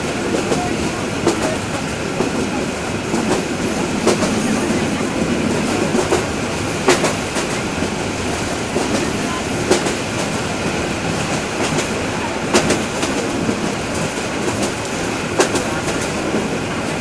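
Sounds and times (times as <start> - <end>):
train wheels rumbling on rails: 0.0 - 17.0
wheels clacking over rail joints: 0.0 - 17.0.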